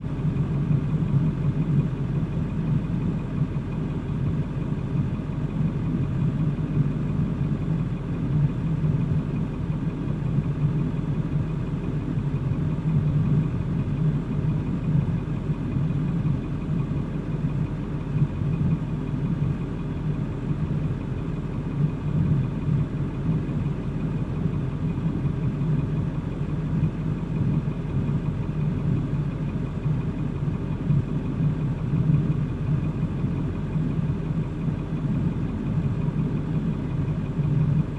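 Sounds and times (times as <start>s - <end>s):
vehicle engine running: 0.0s - 37.9s.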